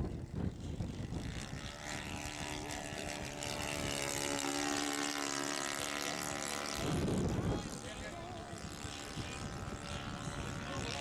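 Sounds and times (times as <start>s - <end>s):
model airplane engine droning: 0.0s - 11.0s
wind rumbling on microphone: 0.0s - 11.0s.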